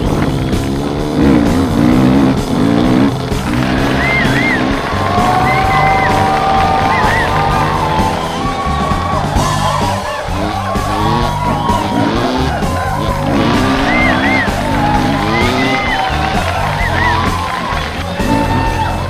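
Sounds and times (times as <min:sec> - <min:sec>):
background music with bass line: 0:00.0 - 0:19.0.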